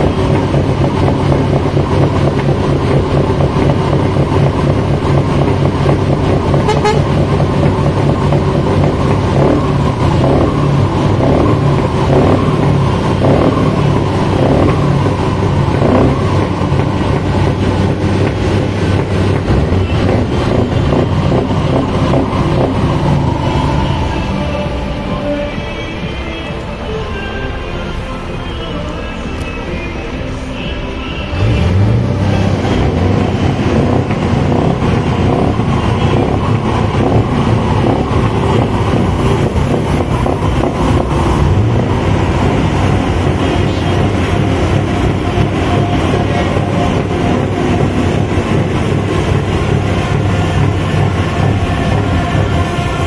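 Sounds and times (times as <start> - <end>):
diesel truck engines idling: 0.0 - 53.0.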